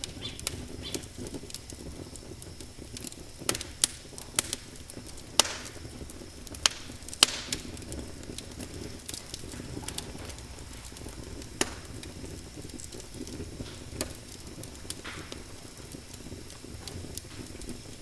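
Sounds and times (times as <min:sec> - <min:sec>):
fire pops and snaps: 0:00.0 - 0:18.0
low rumble of flames: 0:00.0 - 0:18.0
wood fire crackling: 0:00.0 - 0:18.0.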